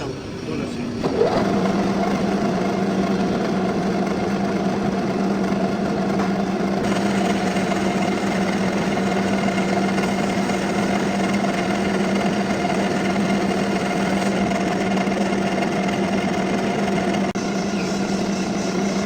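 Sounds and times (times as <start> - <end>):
lathe humming: 0.0 - 19.0.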